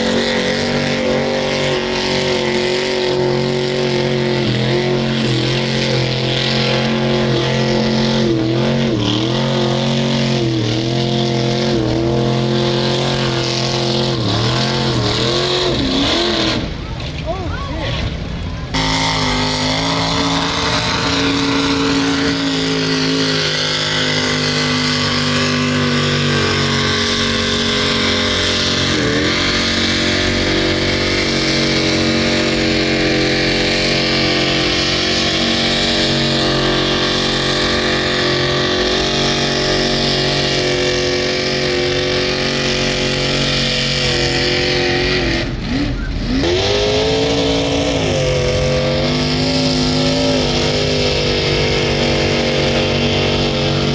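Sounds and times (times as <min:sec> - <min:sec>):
truck engine at high revs: 0:00.0 - 0:53.9.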